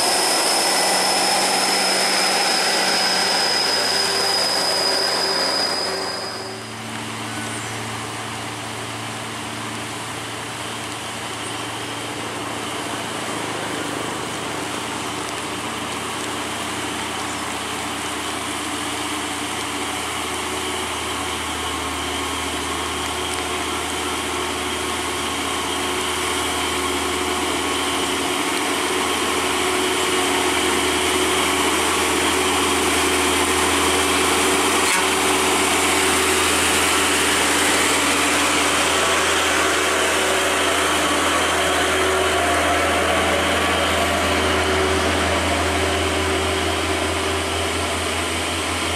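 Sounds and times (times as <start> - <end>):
diesel truck engine labouring uphill: 0.0 - 48.9
passing truck: 0.0 - 48.9.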